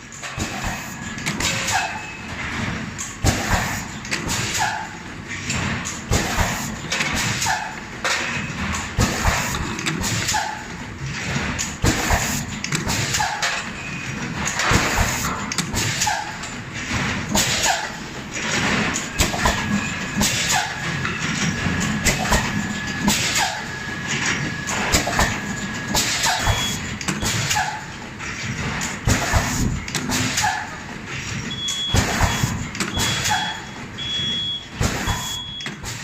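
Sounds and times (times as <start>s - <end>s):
machine mechanical clunks: 0.2s - 36.0s.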